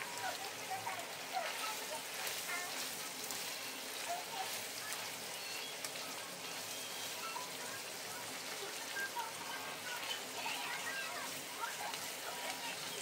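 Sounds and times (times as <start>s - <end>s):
chicken frying sizzle: 0.0s - 13.0s.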